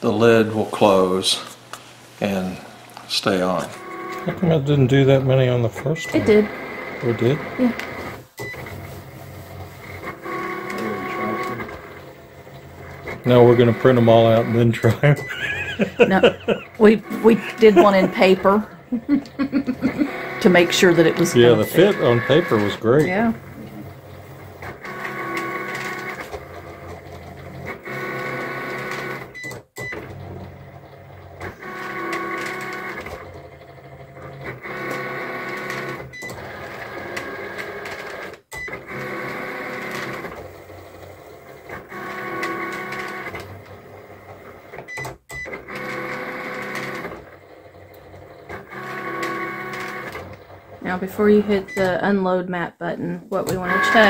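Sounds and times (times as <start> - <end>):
cutting machine motors whirring: 2.4 - 8.9, 9.5 - 52.0, 53.4 - 54.0.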